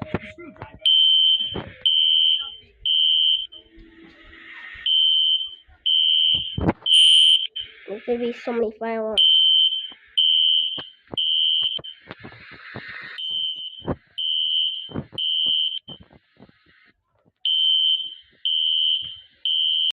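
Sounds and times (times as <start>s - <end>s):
fire alarm beeps: 0.8s - 3.8s, 4.8s - 7.9s, 9.2s - 16.8s, 17.4s - 20.0s.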